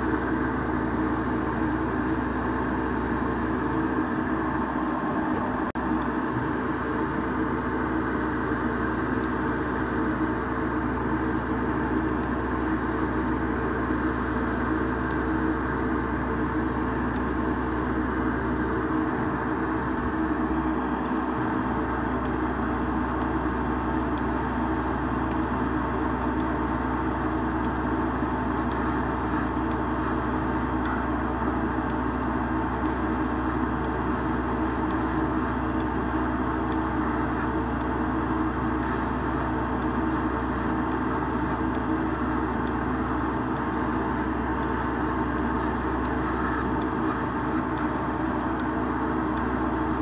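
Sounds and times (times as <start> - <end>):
motor hum: 0.0 - 50.0.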